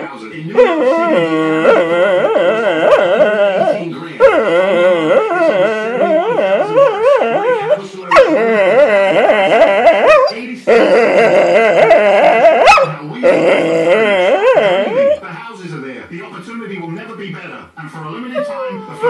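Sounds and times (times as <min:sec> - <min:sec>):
dog howling: 0:00.5 - 0:15.2, 0:18.2 - 0:19.0.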